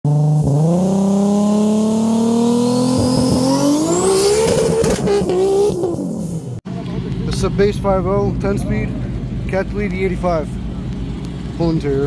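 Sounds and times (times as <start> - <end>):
car engine at high revs: 0.1 - 12.0.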